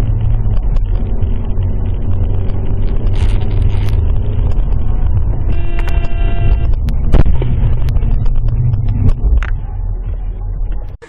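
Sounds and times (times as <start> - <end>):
car engine and road noise: 0.0 - 11.0
steady pitched tone: 0.0 - 11.0.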